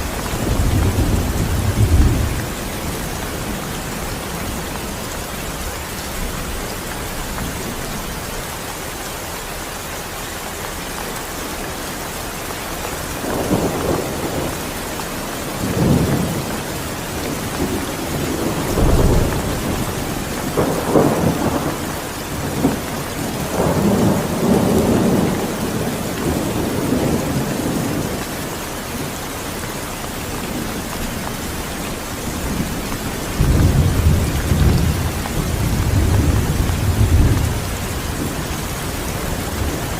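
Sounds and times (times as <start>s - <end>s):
rolling thunder: 0.0s - 8.1s, 13.2s - 28.3s, 30.5s - 39.9s
rain hissing: 0.0s - 39.9s.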